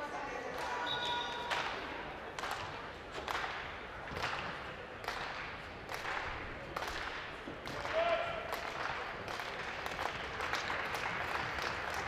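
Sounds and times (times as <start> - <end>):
sharp smacks echoing in a hall: 0.5 - 12.0.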